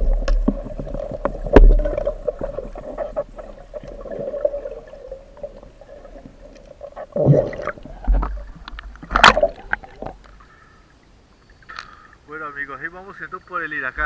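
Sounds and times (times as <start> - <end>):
underwater river hum: 0.0 - 14.0.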